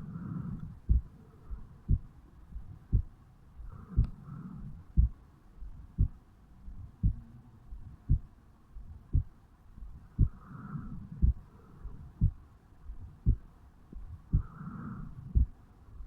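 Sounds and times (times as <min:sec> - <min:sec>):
slow heartbeat: 0:00.0 - 0:16.0.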